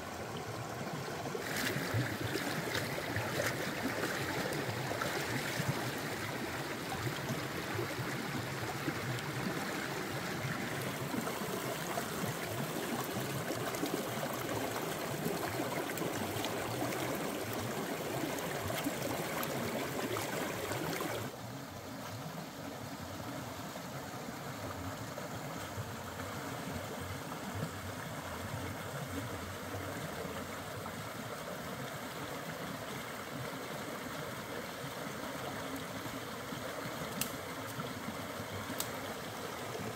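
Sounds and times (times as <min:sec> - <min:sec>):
stream rushing and gurgling: 0:00.0 - 0:39.9.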